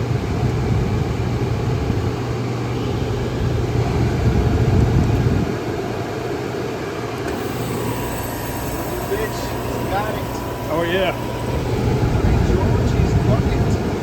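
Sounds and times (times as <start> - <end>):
fan and air noise: 0.0 - 14.0
heat pump compressor hum: 0.0 - 14.0.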